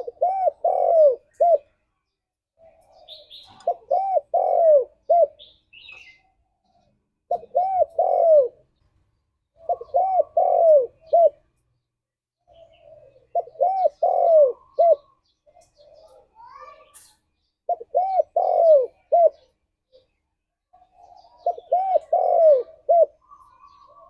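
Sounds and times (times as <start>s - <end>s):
dove cooing: 0.0s - 1.8s, 2.6s - 8.8s, 9.5s - 11.5s, 12.5s - 16.6s, 17.7s - 20.1s, 20.7s - 24.0s
faint high bird chirps: 0.0s - 24.0s.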